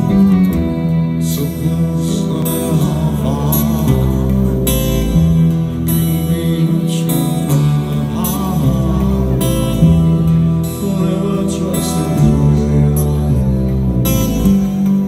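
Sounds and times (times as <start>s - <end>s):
man singing: 0.0s - 15.0s
strummed guitars: 0.0s - 15.0s.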